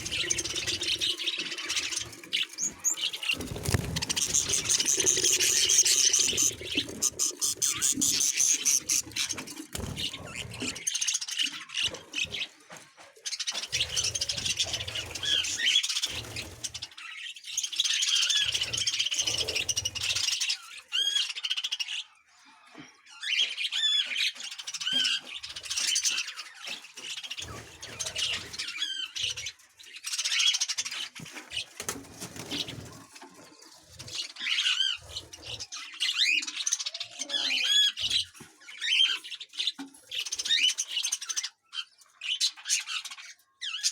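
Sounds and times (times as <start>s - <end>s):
budgerigars chattering and squawking: 0.0s - 12.5s, 13.2s - 43.9s.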